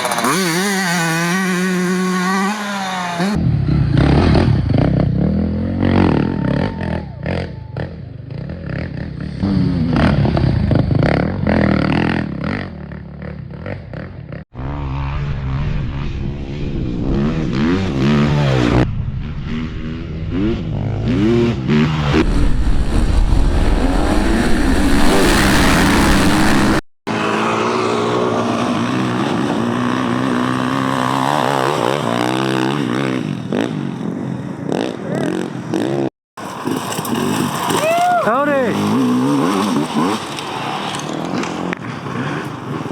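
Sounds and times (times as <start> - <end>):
dirt bike engines revving: 0.0 - 15.6, 19.5 - 42.9.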